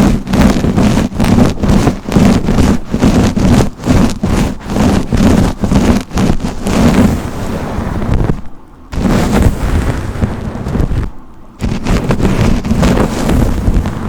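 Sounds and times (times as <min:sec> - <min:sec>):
brush sweeping: 0:00.0 - 0:14.0.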